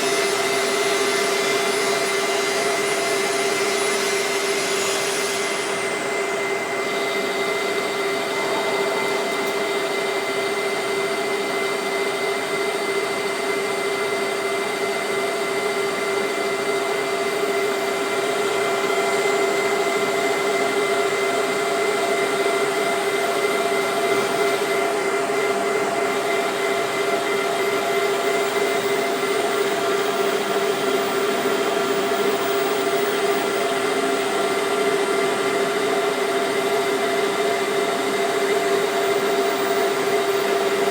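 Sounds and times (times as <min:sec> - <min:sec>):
lathe whining and humming: 0:00.0 - 0:40.9.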